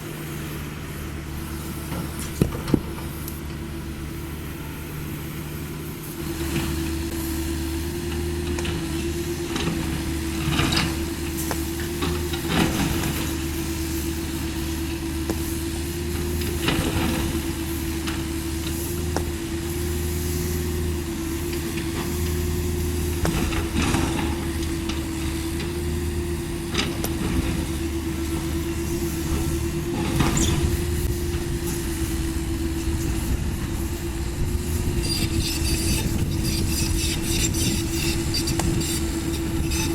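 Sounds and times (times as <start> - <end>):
constant mechanical whine: 0.0 - 39.9
excavator diesel engine running: 0.0 - 39.9.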